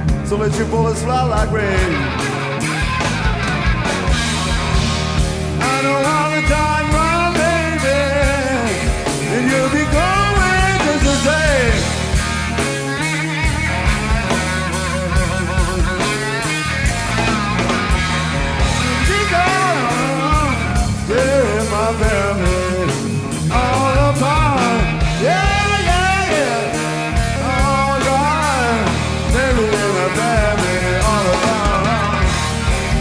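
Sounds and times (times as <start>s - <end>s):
bending lead guitar notes: 0.0s - 33.0s
live blues-rock band: 0.0s - 33.0s.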